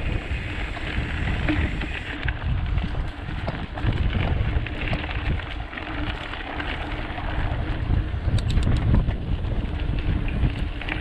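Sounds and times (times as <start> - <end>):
bike rattling: 0.0 - 11.0
wind rumbling on microphone: 0.0 - 11.0
tyres crunching on loose stones: 0.1 - 11.0.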